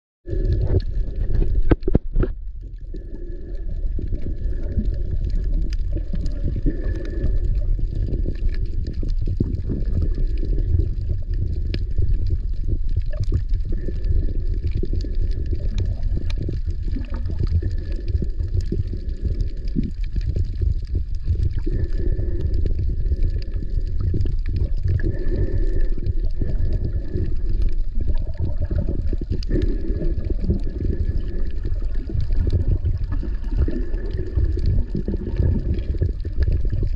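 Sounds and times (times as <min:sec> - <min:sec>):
underwater rumble: 0:00.2 - 0:36.9.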